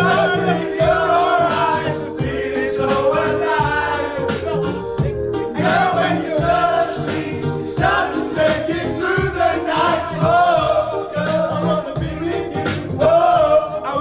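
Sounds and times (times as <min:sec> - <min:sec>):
men singing together: 0:00.0 - 0:14.0
pop backing track: 0:00.0 - 0:14.0.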